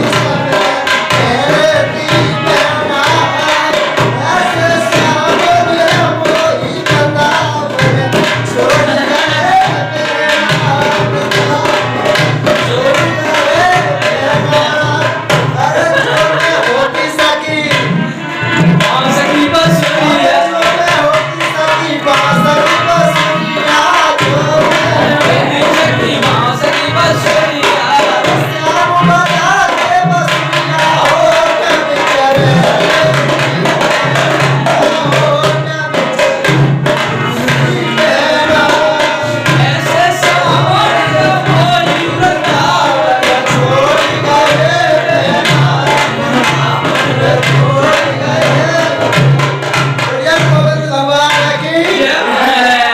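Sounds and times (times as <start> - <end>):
person singing devotional song: 0.0 - 52.9
tabla drum rhythm: 0.0 - 52.9.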